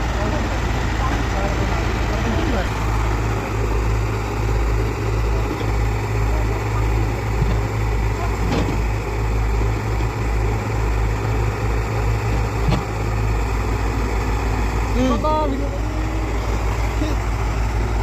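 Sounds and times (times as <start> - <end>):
excavator diesel engine rumble: 0.0 - 18.0.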